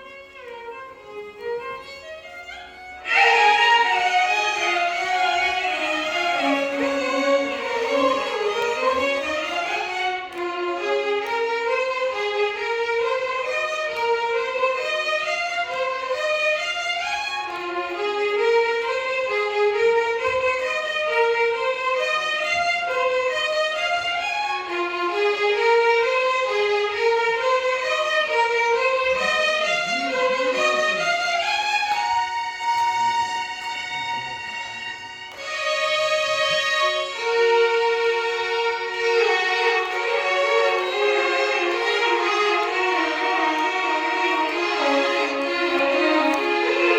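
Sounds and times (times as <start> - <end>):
violins playing fast bowed runs: 0.0 - 46.9.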